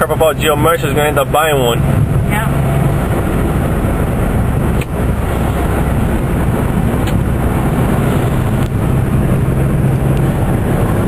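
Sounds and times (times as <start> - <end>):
car engine humming: 0.0 - 11.0
road noise: 0.0 - 11.0.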